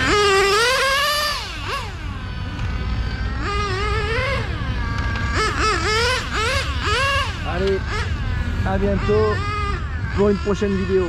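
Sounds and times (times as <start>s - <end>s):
rc car nitro engine revving: 0.0s - 11.0s.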